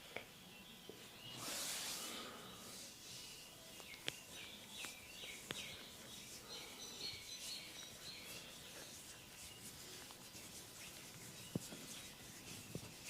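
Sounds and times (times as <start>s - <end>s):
small birds chirping: 0.0s - 13.0s
massage handling sounds: 1.0s - 13.0s.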